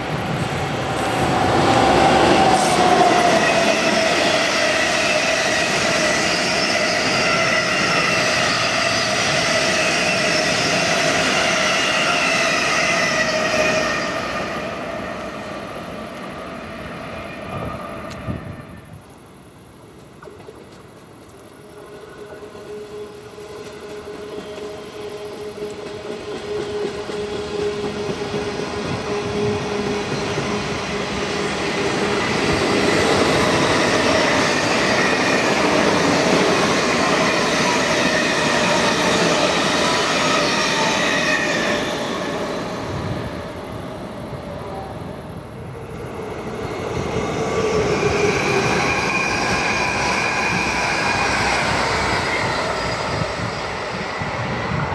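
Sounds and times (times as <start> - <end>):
steady train whine: 0.0 - 54.9
train wheels rumbling on rail: 0.0 - 54.9.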